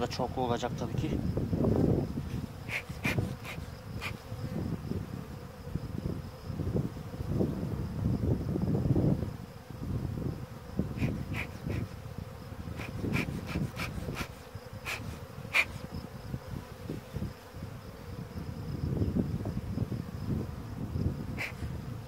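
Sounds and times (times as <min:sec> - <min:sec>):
bees buzzing: 0:00.0 - 0:22.0
wind on microphone: 0:00.0 - 0:22.0.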